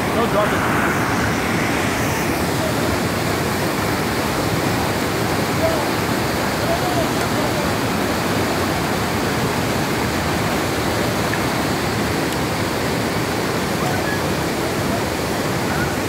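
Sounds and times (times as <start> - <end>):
waterfall rushing into pool: 0.0 - 16.0.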